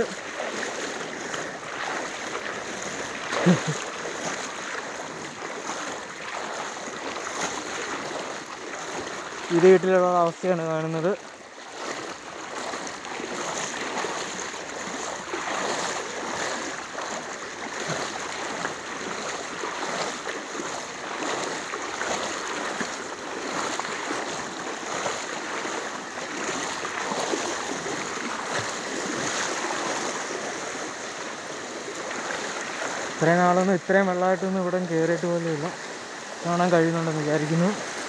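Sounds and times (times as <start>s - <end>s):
floodwater flowing: 0.0s - 38.0s
legs wading through water: 0.0s - 38.0s.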